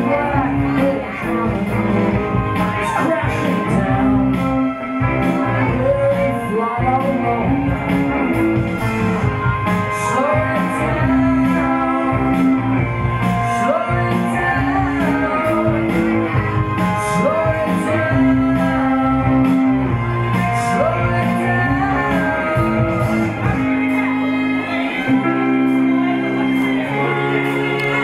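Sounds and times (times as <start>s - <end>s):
man singing: 0.0s - 8.4s, 9.8s - 25.3s
electric guitar: 0.0s - 28.0s
steady beat: 0.0s - 28.0s.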